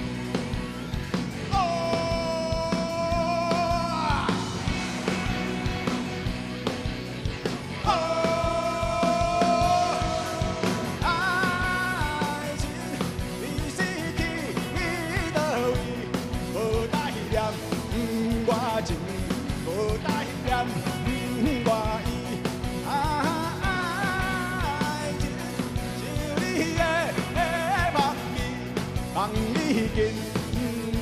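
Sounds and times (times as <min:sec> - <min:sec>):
drum beat: 0:00.0 - 0:31.0
rock lead melody: 0:00.0 - 0:31.0.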